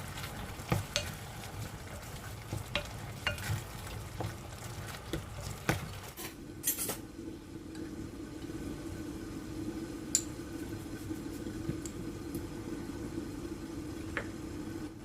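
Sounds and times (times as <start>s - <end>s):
kitchen appliance humming: 0.0s - 15.0s.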